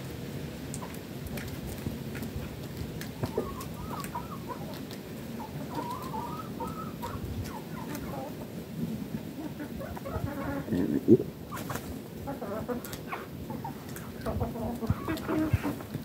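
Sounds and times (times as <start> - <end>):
low background noise: 0.0 - 16.0
chickens clucking: 0.7 - 1.8, 2.4 - 16.0.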